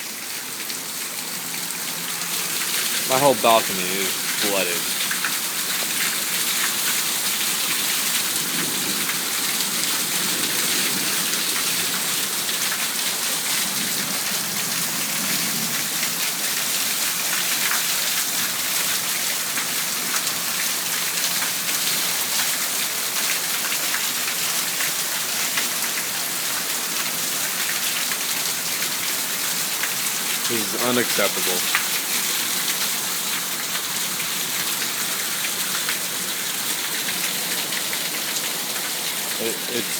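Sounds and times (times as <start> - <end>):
heavy rain splashing: 0.0 - 39.9
water spilling from gutters: 0.0 - 39.9.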